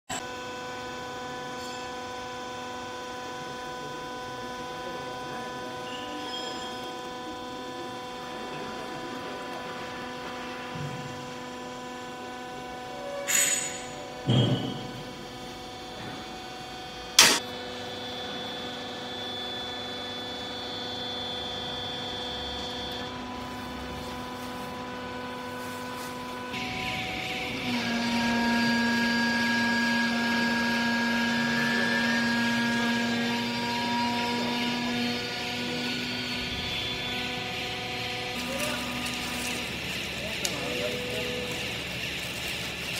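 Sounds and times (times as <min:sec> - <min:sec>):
electrical machine hum: 0:00.1 - 0:42.9.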